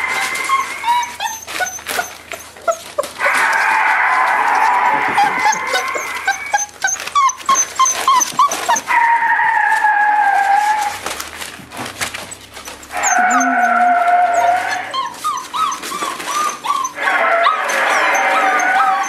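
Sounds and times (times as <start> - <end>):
puppy yelping squeaks: 0.0 - 3.5, 4.5 - 11.0, 12.3 - 19.0
puppies whining: 0.0 - 19.0.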